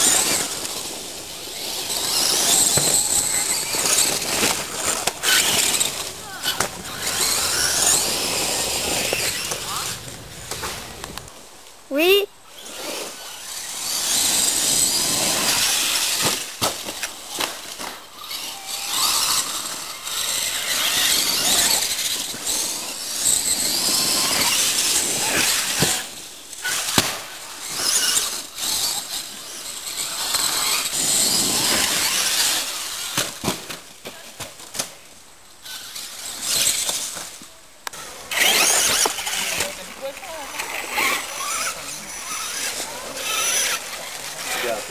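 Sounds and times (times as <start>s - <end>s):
rc truck motor whine: 0.0s - 11.4s, 12.4s - 33.9s, 35.6s - 44.9s.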